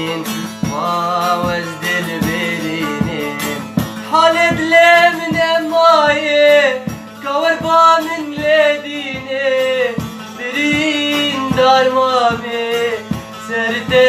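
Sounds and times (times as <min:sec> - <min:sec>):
man singing: 0:00.0 - 0:14.0
plucked string instrument: 0:00.0 - 0:14.0
steady drum beat: 0:00.0 - 0:14.0.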